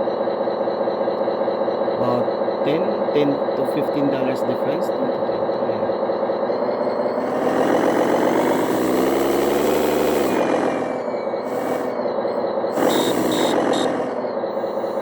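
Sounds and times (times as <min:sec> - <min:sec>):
simulated truck engine idling: 0:00.0 - 0:15.0.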